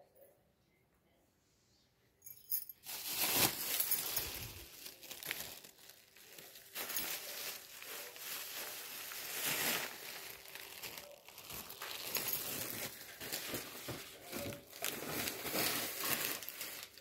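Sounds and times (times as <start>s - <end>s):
plastic bag crinkling: 2.6s - 17.0s.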